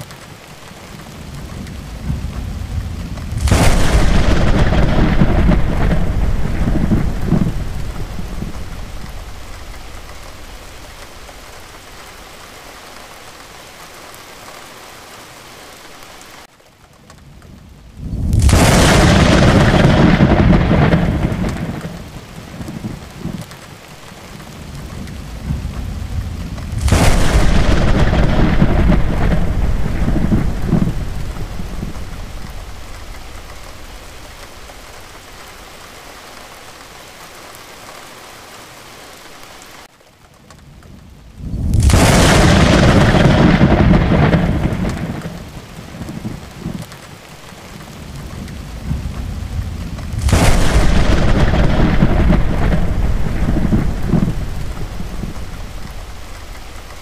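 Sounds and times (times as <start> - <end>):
steady rain falling: 0.0 - 57.0
thunderclaps: 0.7 - 13.5, 17.3 - 35.9, 40.7 - 57.0.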